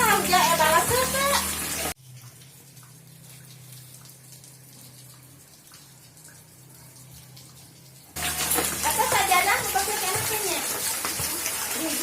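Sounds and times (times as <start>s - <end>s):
rain patter: 0.0s - 12.0s
water drips: 0.0s - 12.0s.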